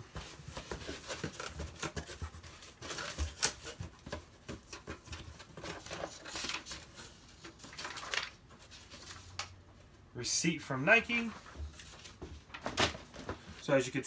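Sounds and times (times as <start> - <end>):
cardboard and paper rustling: 0.0 - 9.6, 11.1 - 13.8.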